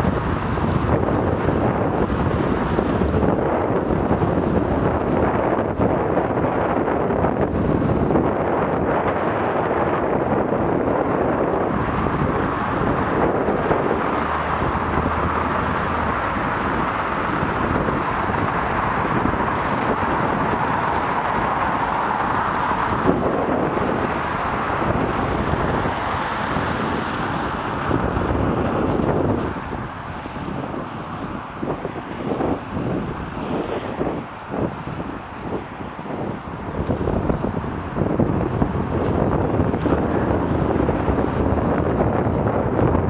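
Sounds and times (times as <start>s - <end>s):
car traffic on wet road: 0.0s - 43.0s
wind rush on microphone: 0.0s - 43.0s.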